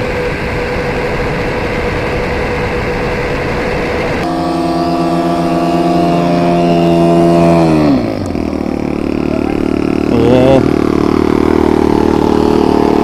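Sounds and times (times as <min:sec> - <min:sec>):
electric motors whining: 0:00.2 - 0:13.0.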